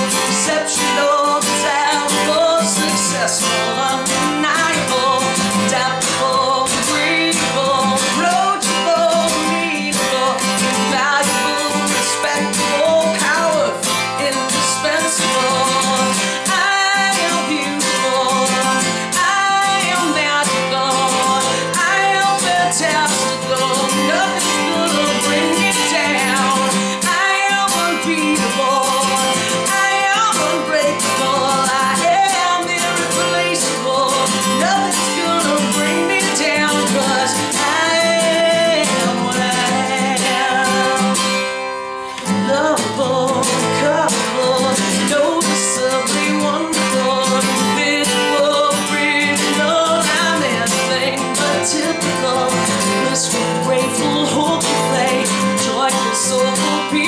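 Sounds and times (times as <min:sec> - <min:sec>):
acoustic guitar strumming: 0:00.0 - 0:57.0
woman singing: 0:00.0 - 0:57.0.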